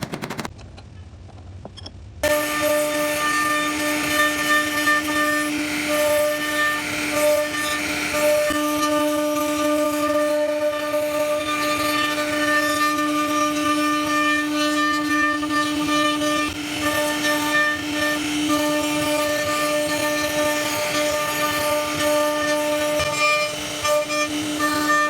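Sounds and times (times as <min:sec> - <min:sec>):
router spindle carving wood: 0:02.2 - 0:25.0.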